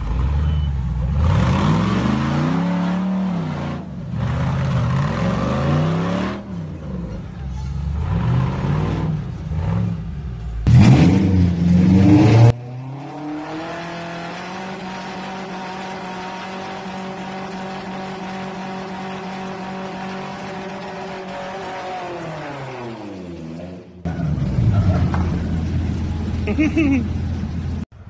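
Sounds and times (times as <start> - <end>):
truck engine revving high: 0.0 - 27.8.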